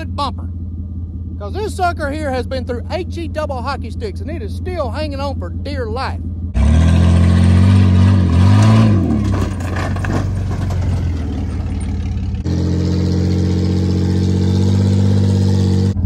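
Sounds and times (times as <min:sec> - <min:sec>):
diesel tractor engine drone: 0:00.0 - 0:16.0
pickup engine revving: 0:00.0 - 0:16.0.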